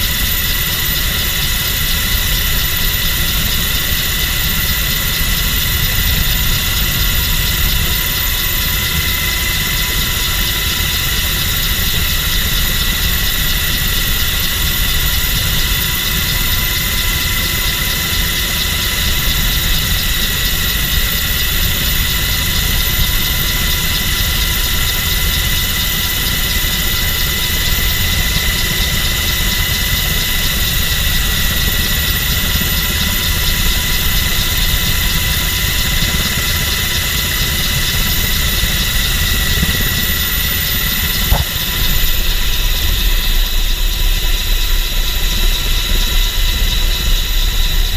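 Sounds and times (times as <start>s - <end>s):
helicopter rotors and turbines rumbling: 0.0s - 47.9s
high whine: 0.0s - 47.9s.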